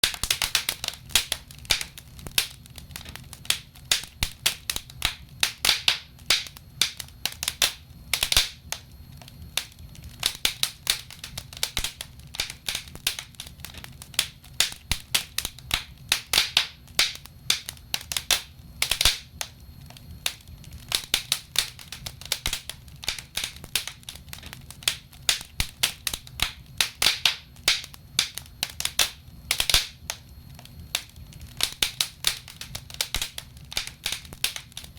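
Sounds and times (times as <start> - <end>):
low rumble of burning logs: 0.0 - 34.9
wood fire crackling and popping: 0.0 - 34.9.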